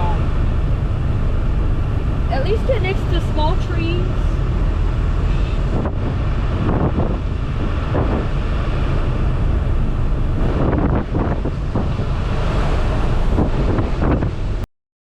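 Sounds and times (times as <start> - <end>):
storm wind gusting: 0.0 - 14.7
wind rumble on microphone: 0.0 - 14.7.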